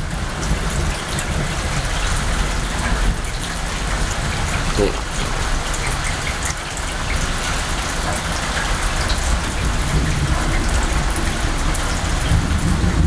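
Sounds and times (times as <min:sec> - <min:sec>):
low thunder rumble: 0:00.0 - 0:04.7, 0:07.0 - 0:13.0
heavy rain pouring: 0:00.0 - 0:13.0.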